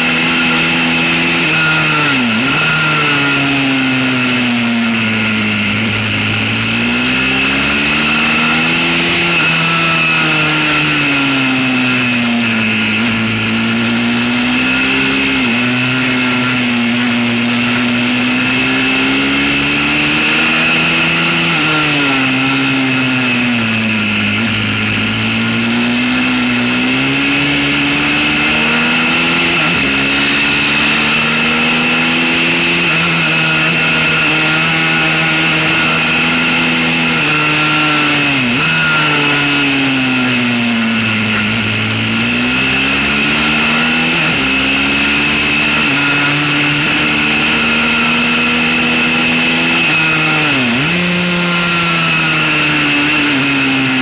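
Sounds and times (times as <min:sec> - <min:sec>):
small motorbike engine revving: 0:00.0 - 0:54.0.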